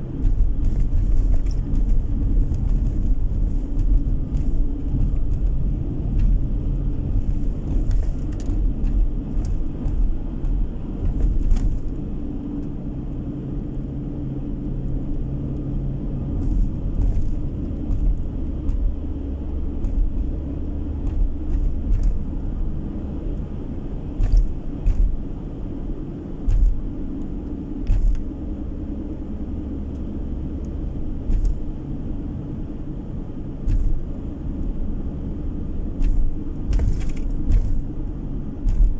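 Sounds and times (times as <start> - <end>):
engine and tyre rumble: 0.0 - 38.9.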